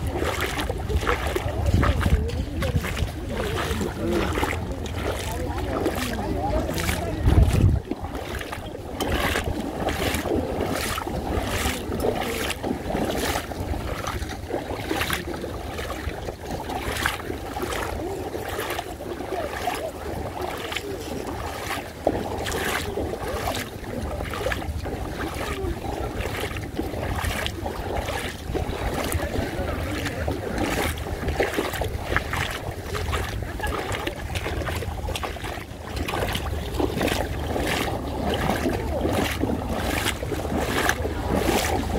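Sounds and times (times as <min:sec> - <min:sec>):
sloshing splashes of wading: 0:00.0 - 0:41.9
wind buffeting microphone: 0:00.0 - 0:41.9.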